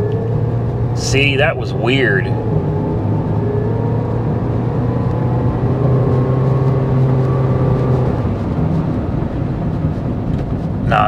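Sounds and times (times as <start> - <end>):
car engine drone with rising whine: 0.0 - 11.0.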